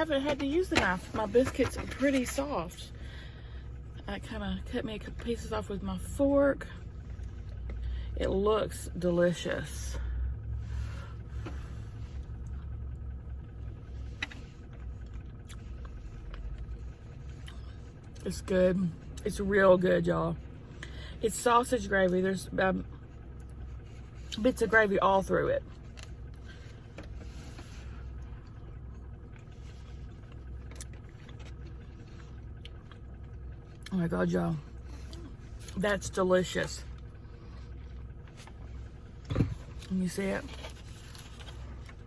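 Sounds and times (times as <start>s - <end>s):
car idling: 0.0s - 42.0s.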